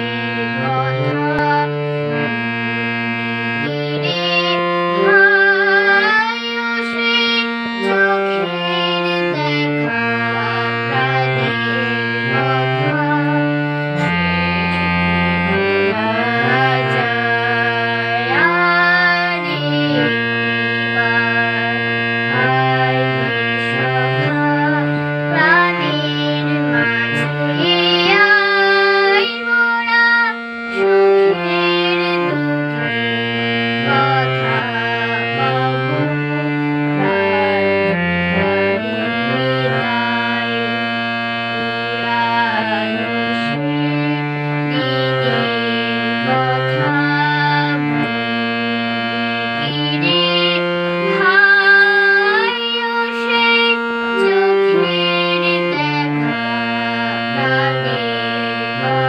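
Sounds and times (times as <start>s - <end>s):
boy singing: 0.0s - 59.0s
harmonium playing held notes: 0.0s - 59.0s.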